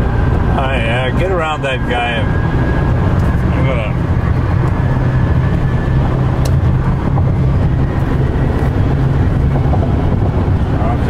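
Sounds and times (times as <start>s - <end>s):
tyres and wind rumble in cab: 0.0s - 11.0s.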